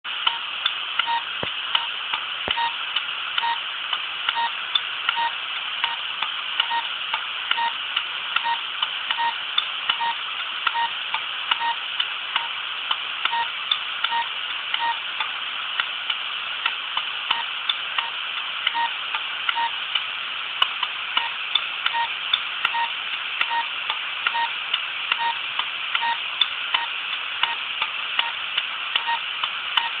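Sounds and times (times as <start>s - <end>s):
hard drive hiss: 0.1s - 30.0s
hard drive ticking: 0.1s - 30.0s.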